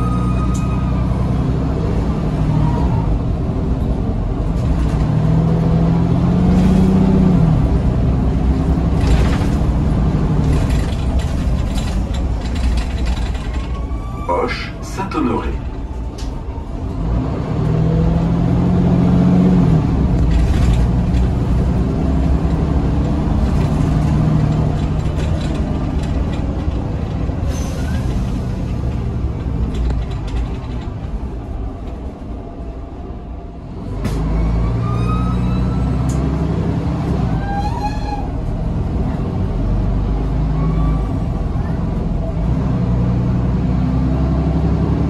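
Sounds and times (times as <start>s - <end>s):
bus engine accelerating hard: 0.0s - 45.0s.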